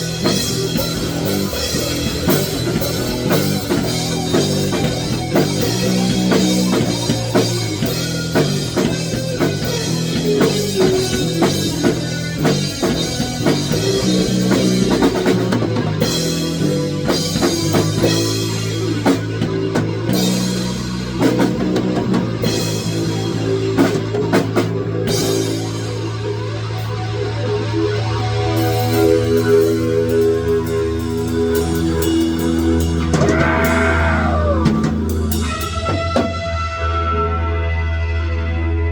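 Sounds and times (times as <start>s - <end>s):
rock music with drums and guitar: 0.0s - 38.9s.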